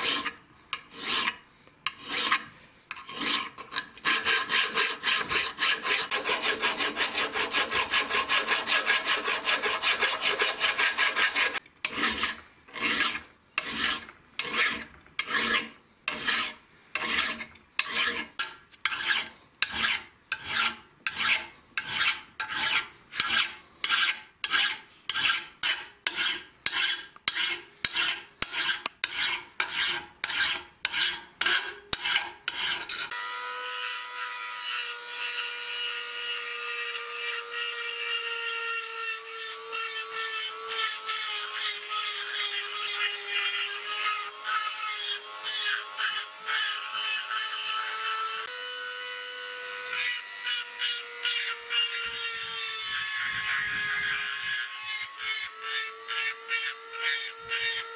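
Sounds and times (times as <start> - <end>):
hand file rasping on metal: 0.0 - 48.6, 49.6 - 57.9.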